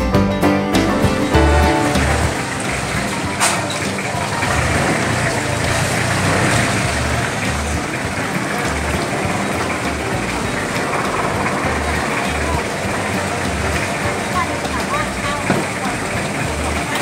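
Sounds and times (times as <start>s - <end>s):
crowd talking: 0.0s - 17.0s
steady rushing noise: 1.6s - 17.0s.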